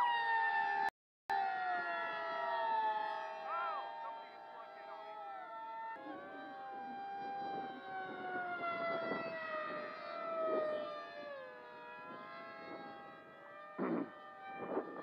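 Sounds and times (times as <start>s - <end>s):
electric motors and propellers whining: 1.4s - 15.0s.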